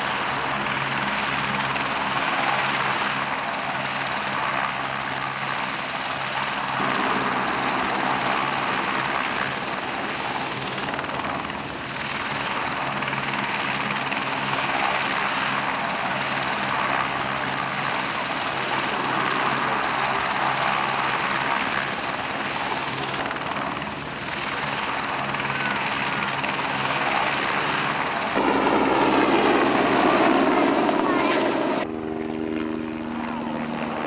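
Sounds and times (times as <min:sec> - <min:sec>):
helicopter rotor and engine: 0:00.0 - 0:34.0.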